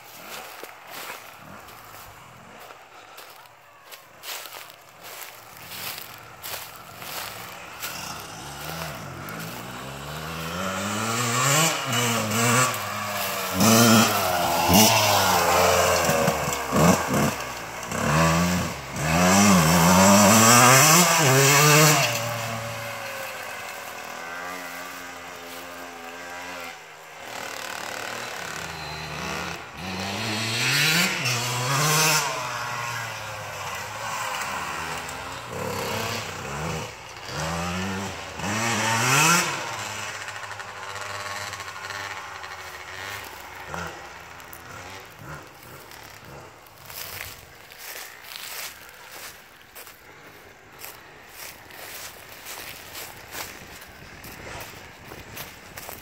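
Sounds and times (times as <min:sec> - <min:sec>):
dirt bikes revving: 0:00.0 - 0:56.0.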